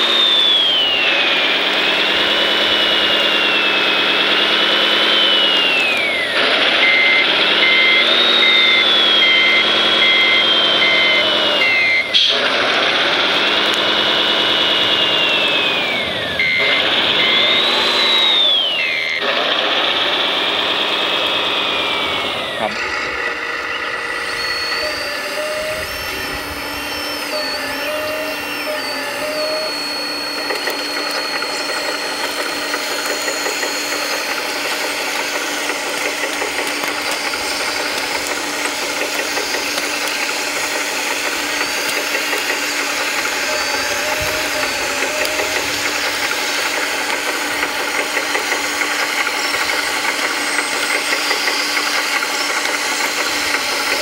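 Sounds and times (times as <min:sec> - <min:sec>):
electric motor and pump whines: 0:00.0 - 0:54.0
fast mechanical rattle: 0:00.0 - 0:54.0.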